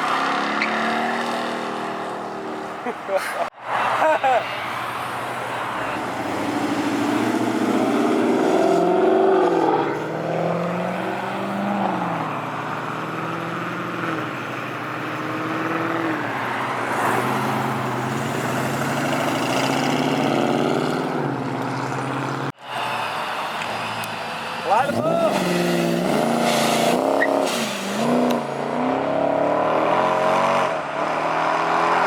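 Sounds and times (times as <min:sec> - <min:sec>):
car engine revving: 0:00.0 - 0:02.9, 0:05.8 - 0:22.6, 0:23.8 - 0:32.0.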